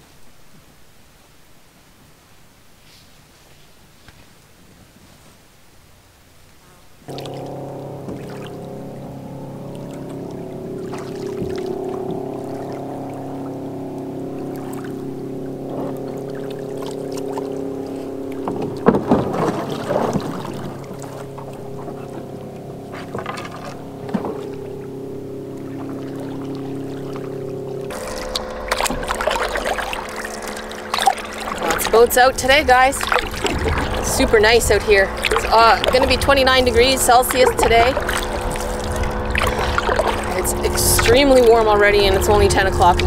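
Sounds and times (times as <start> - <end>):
outboard motor droning: 6.8 - 43.0.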